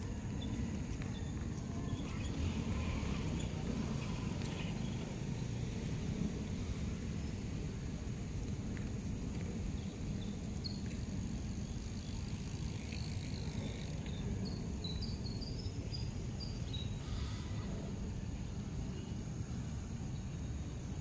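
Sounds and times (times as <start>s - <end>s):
low outdoor city rumble: 0.0s - 21.0s.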